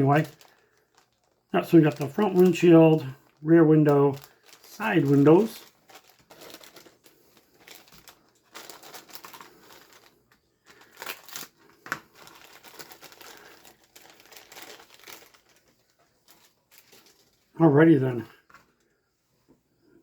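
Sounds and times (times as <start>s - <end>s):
plastic bags crinkling: 0.0s - 18.8s.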